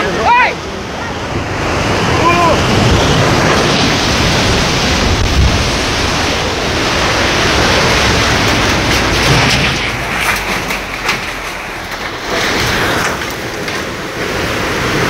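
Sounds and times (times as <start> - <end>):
landslide roaring: 0.0 - 15.0.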